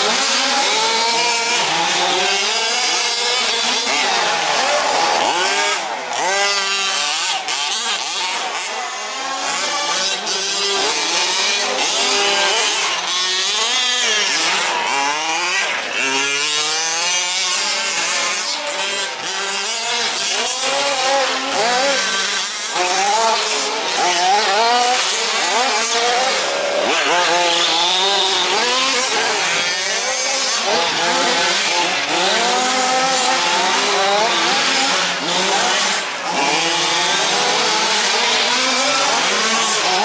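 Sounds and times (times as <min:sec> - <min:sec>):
small two-stroke engines revving: 0:00.0 - 0:40.0.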